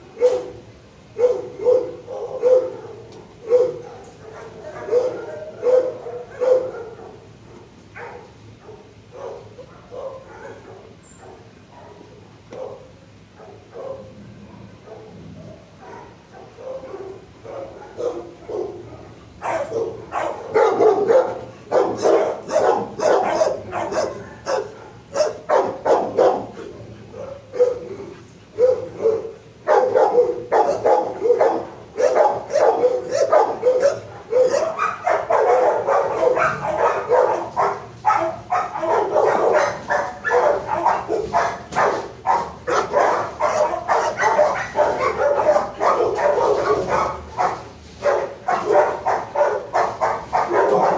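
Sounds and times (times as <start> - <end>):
dogs barking: 0.0 - 50.9.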